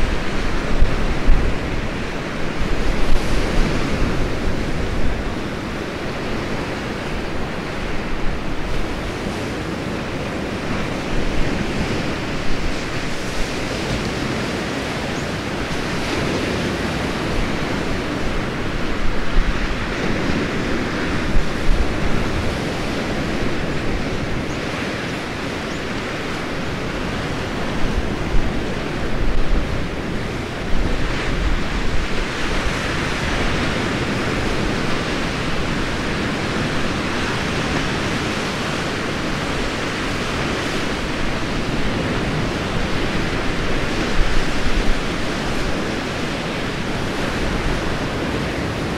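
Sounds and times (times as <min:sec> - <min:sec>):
low wind rumble: 0:00.0 - 0:48.9
sea surf breaking: 0:00.0 - 0:48.9.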